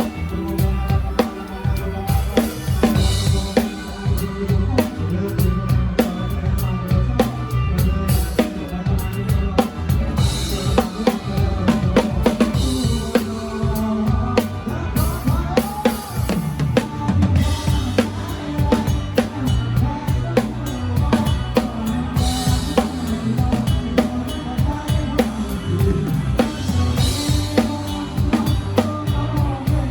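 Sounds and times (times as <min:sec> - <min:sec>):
bass and band instruments: 0:00.0 - 0:29.9
drum kit groove: 0:00.0 - 0:29.9.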